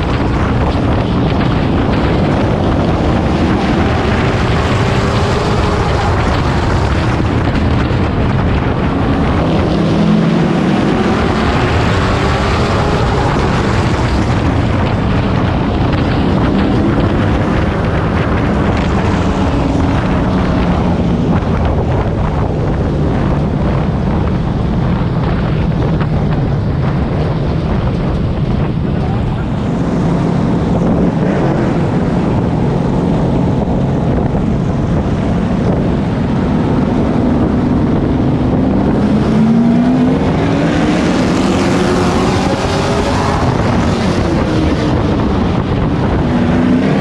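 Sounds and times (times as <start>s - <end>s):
race truck engine: 0.0s - 47.0s
wind and road noise: 0.0s - 47.0s.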